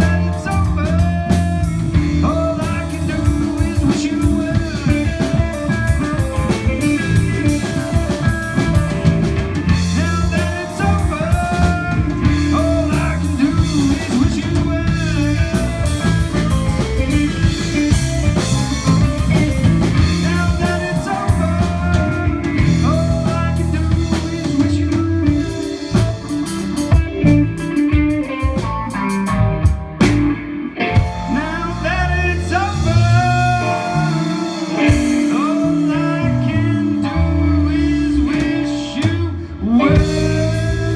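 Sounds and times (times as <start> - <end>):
blues band playing: 0.0 - 40.9
electric guitar bending notes: 0.0 - 40.9.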